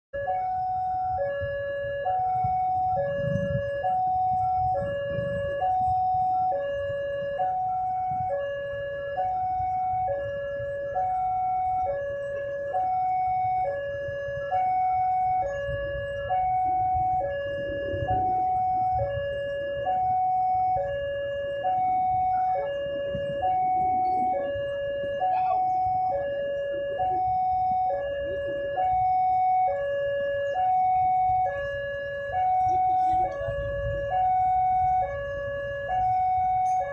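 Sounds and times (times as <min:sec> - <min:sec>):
two-tone level crossing alarm: 0:00.1 - 0:36.9
low engine rumble: 0:00.2 - 0:36.9.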